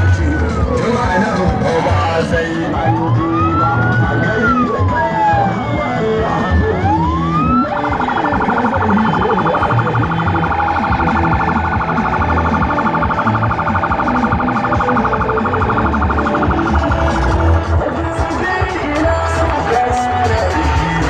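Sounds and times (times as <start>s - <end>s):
fast-warbling siren: 0.0s - 18.4s
wailing siren: 0.0s - 21.0s.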